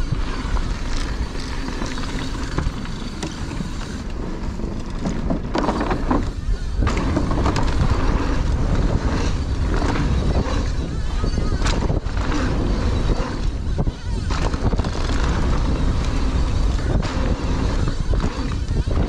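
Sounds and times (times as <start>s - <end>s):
bike clicking and rattling: 0.0s - 19.0s
tyre noise on dirt: 0.0s - 19.0s
wind rumbling on microphone: 0.0s - 19.0s.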